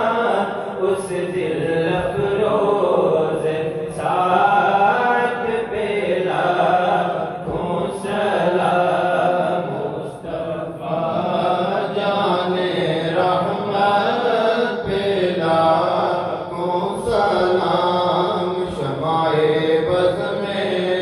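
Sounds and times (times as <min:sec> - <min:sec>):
man chanting melodically: 0:00.0 - 0:21.0.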